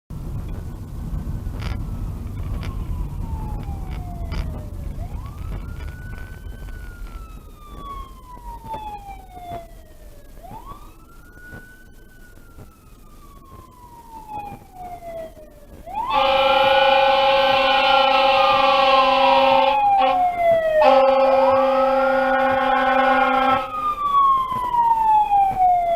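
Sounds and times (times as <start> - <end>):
low traffic rumble: 0.1 - 25.9
fire engine siren wailing: 0.2 - 25.9.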